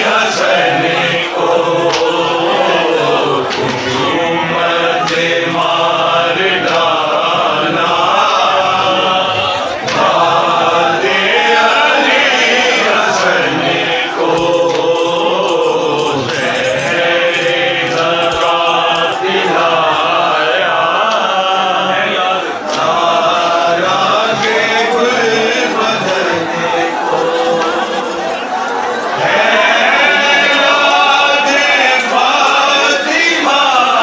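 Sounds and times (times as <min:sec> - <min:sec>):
crowd of men chanting: 0:00.0 - 0:34.0.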